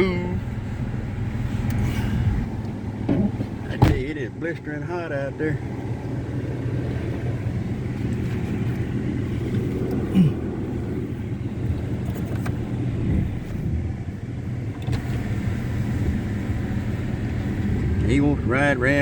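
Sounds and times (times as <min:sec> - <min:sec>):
truck engine rumble: 0:00.0 - 0:19.0.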